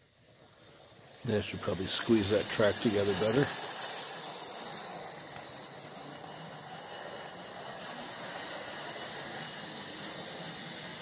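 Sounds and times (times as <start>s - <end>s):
toy train motor and wheels whirring: 0.0s - 11.0s.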